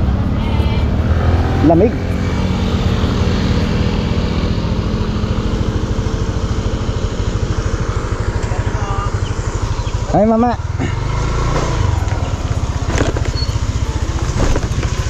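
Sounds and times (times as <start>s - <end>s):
motor scooter engine: 0.0s - 15.0s.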